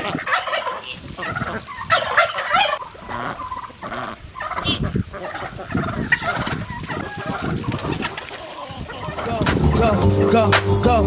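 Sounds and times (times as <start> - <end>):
turkey gobbling: 0.0 - 10.4.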